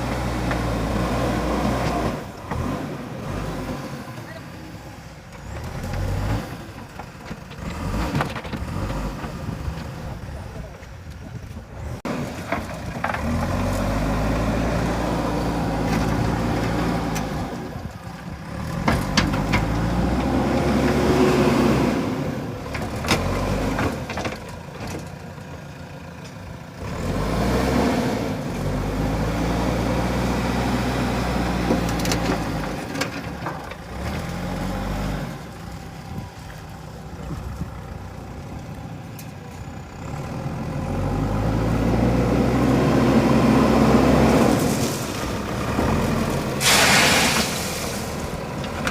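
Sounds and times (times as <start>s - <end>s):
diesel engine revving: 0.0s - 10.8s, 11.6s - 48.9s.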